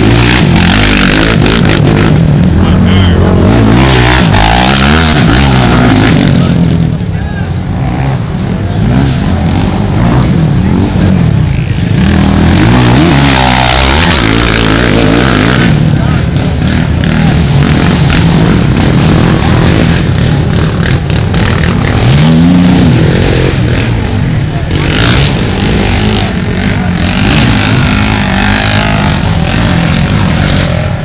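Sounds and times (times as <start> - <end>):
quad engines revving past: 0.0 - 31.0.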